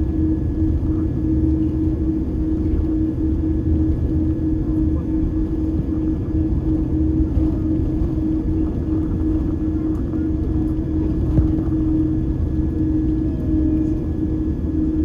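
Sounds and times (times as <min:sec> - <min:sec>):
aircraft cabin rumble: 0:00.0 - 0:15.0
constant hum: 0:00.0 - 0:15.0.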